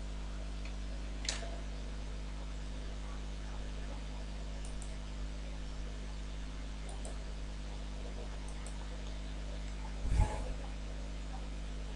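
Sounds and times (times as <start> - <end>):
electrical hum and hiss: 0.0 - 11.9.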